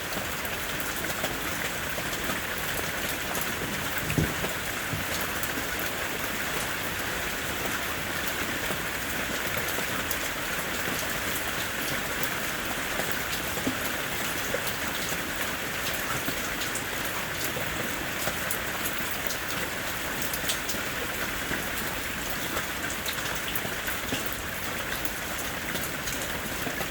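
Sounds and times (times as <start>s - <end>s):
raindrops pattering on surfaces: 0.0s - 26.9s
steady rain hiss: 0.0s - 26.9s.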